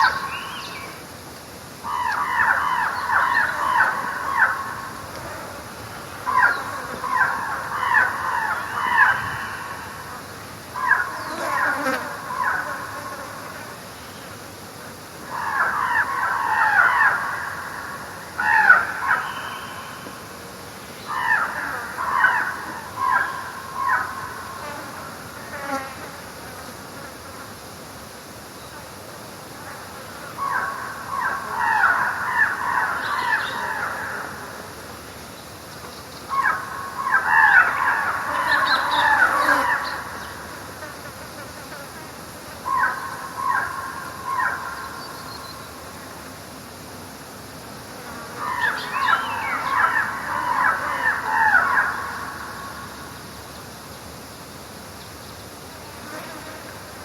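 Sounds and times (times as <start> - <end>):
faint steady hiss: 0.0 - 57.0
insect buzzing: 0.0 - 57.0.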